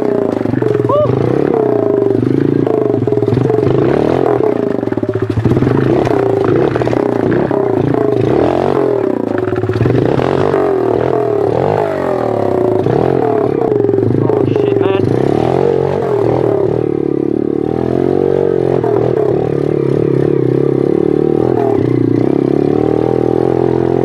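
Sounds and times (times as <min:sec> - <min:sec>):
motorbike engine revving: 0:00.0 - 0:24.0.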